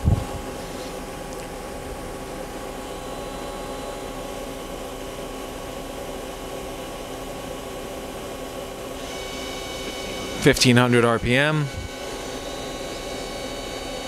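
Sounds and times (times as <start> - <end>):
lathe spindle whine: 0.0 - 14.0
machine running hum: 0.0 - 14.0.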